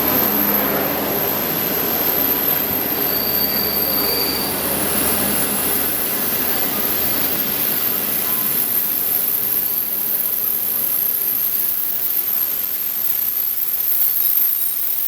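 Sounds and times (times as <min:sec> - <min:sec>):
train wheels rushing on rails: 0:00.0 - 0:13.5.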